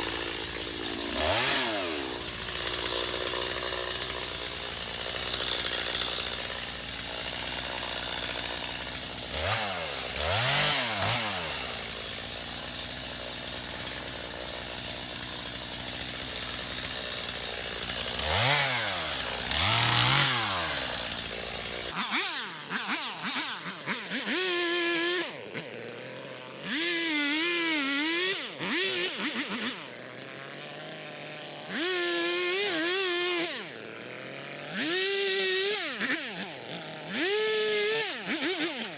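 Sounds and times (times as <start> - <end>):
chainsaw revving while cutting: 0.0 - 38.9.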